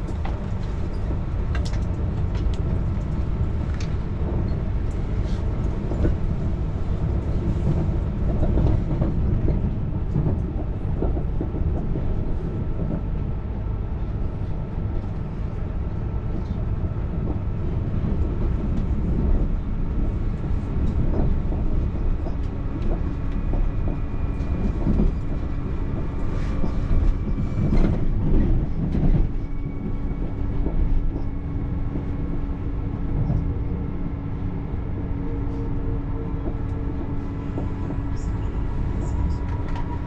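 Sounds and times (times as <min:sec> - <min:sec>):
train rumbling on track: 0:00.0 - 0:40.0.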